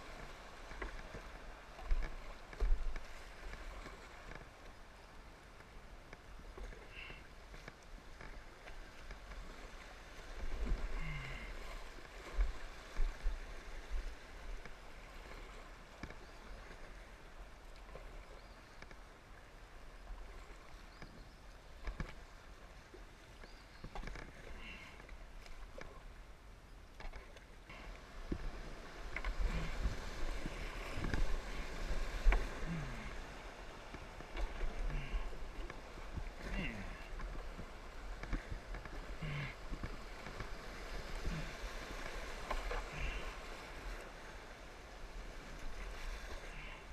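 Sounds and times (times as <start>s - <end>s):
paddle strokes splashing: 0.0s - 46.9s.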